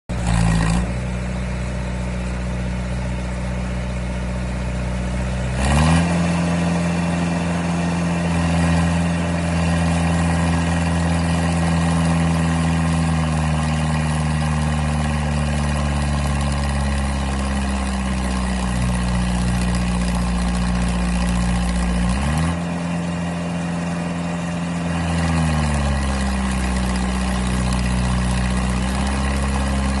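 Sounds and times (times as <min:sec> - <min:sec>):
pile driver diesel engine revving: 0:00.1 - 0:30.0.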